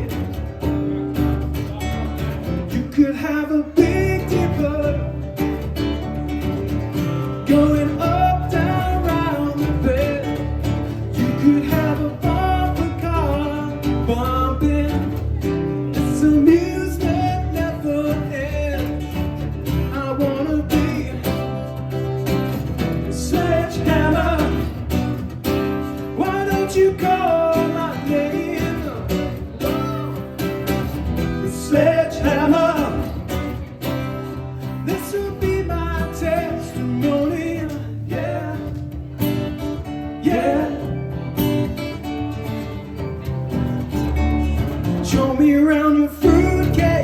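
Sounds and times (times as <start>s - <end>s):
guitar: 0.0s - 47.0s.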